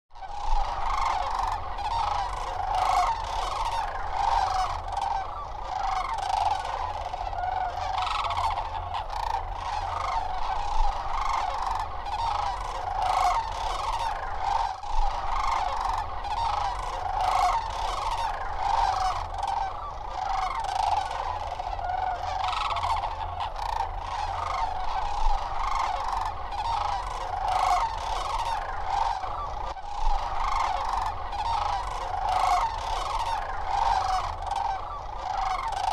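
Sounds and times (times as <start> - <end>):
cranes bugling calls: 0.1 - 35.9.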